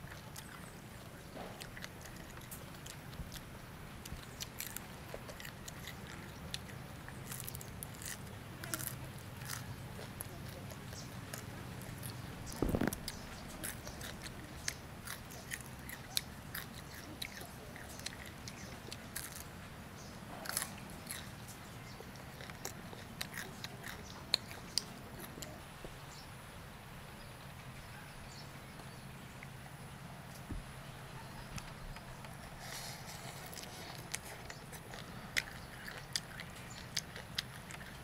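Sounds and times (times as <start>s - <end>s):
crunchy chewing: 0.0s - 26.2s, 31.1s - 38.0s.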